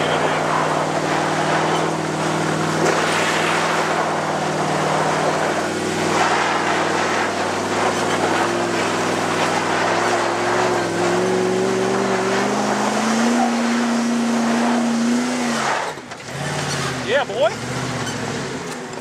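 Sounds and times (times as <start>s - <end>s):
engine revving under load: 0.0s - 19.0s
tyres spraying loose dirt: 0.0s - 19.0s.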